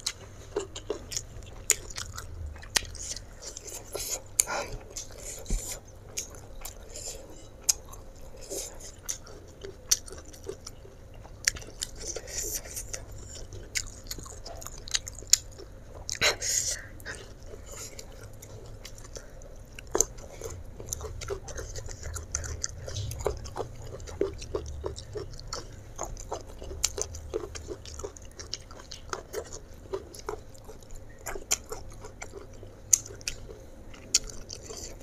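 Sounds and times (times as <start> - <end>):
low steady hum: 0.0 - 35.0
wet chewing clicks and smacks: 0.0 - 35.0.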